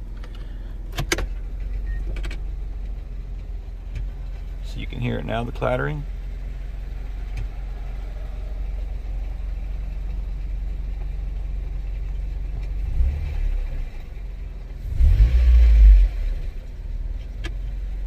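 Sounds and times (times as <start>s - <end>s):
car engine idling: 0.0s - 18.0s
engine rumble: 0.0s - 18.0s.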